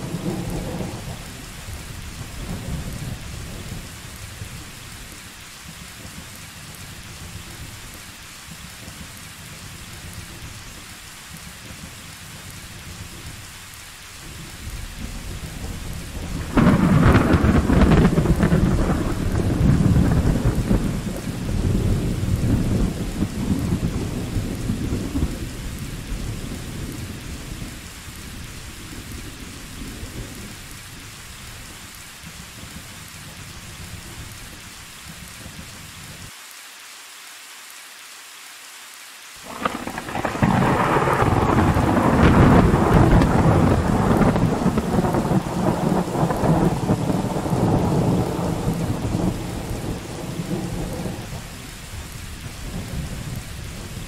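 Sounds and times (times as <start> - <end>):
thunder rumbling: 0.0 - 8.0, 14.2 - 35.6, 39.4 - 54.0
steady rain: 0.0 - 54.0.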